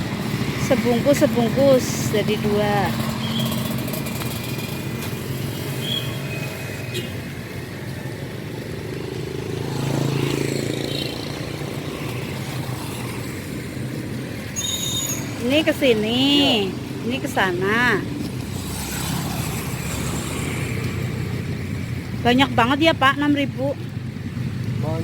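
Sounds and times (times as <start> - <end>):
street traffic passing: 0.0 - 25.0.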